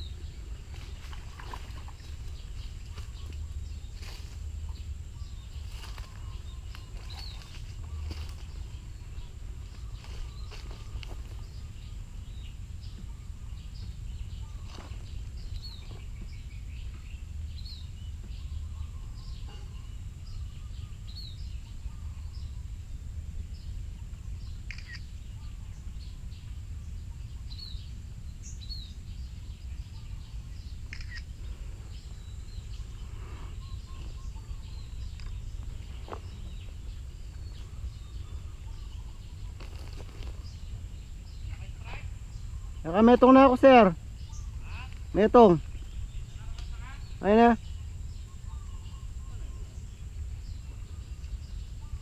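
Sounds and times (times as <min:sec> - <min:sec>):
small birds chirping: 0:00.0 - 0:52.0
steady low rumble: 0:00.0 - 0:52.0.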